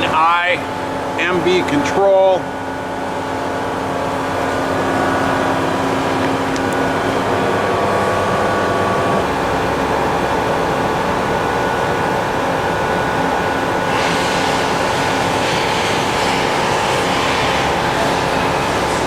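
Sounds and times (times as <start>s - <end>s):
boring mill hum and whine: 0.0s - 19.0s.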